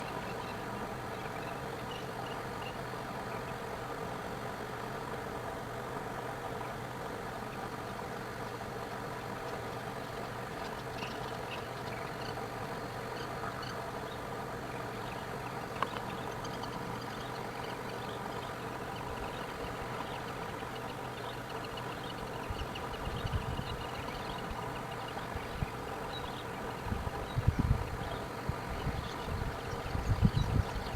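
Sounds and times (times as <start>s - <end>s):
steady mechanical hum: 0.0s - 30.9s.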